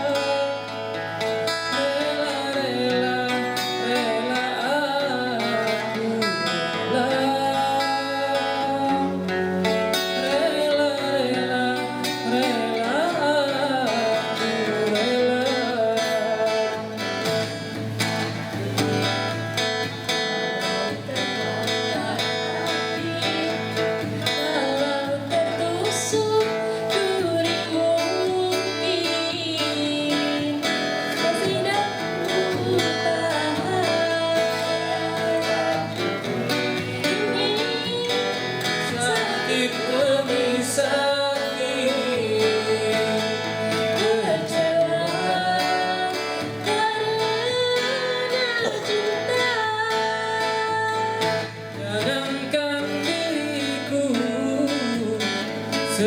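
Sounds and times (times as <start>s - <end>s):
guitar music: 0.0s - 56.0s.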